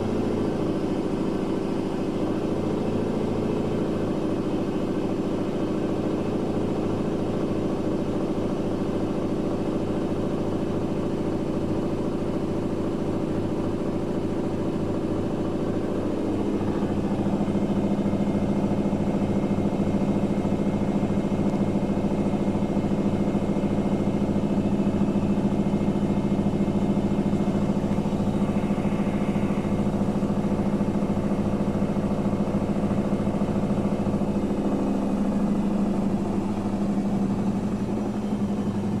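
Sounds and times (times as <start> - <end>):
washing machine spinning hum: 0.0 - 39.0.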